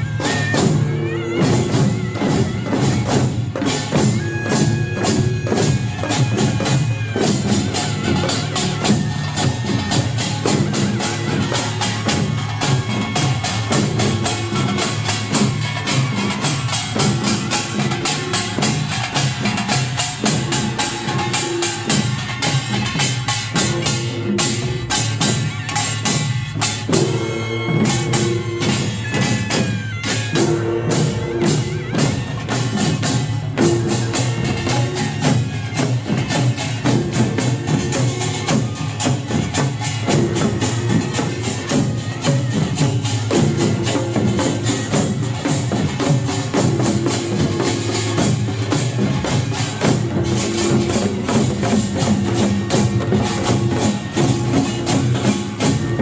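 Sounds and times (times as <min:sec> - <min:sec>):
percussion band fast rhythm: 0:00.0 - 0:56.0.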